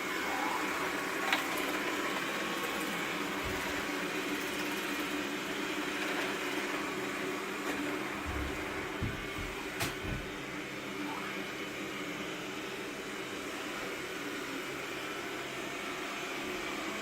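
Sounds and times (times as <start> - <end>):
robot vacuum cleaner running: 0.0 - 17.0.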